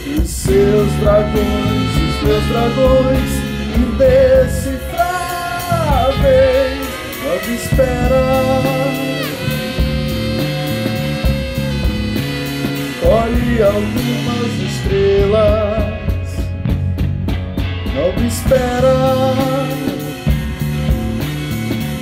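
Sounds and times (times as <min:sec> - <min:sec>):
person singing long notes: 0:00.0 - 0:16.6, 0:18.0 - 0:20.4
bass guitar: 0:00.0 - 0:22.0
drum kit: 0:00.0 - 0:22.0
electric guitar: 0:00.0 - 0:22.0.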